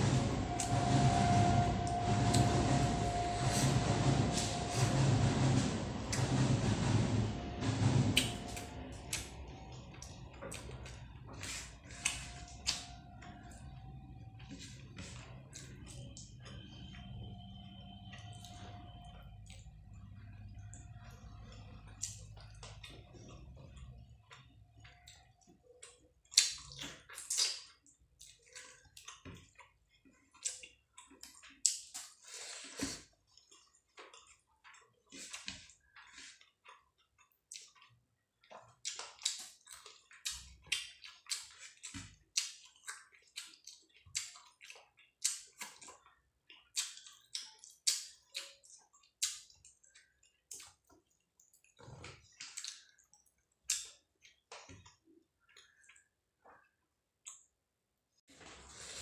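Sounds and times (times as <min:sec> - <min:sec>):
wet chewing and mouth noises: 0:08.2 - 0:17.6, 0:18.2 - 0:57.7.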